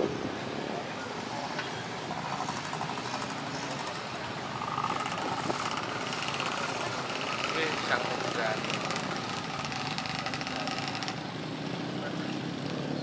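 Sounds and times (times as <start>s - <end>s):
vehicle engine noise: 0.0s - 13.0s.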